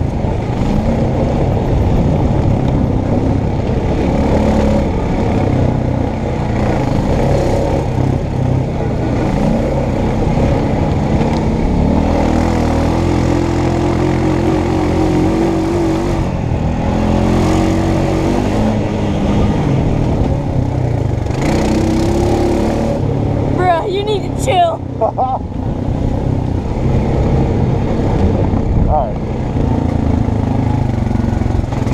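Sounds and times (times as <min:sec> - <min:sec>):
atv engine revving: 0:00.0 - 0:31.9.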